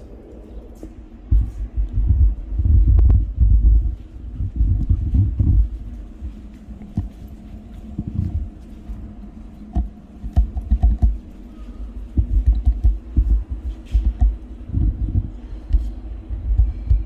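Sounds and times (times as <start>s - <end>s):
footsteps: 0.0s - 17.0s.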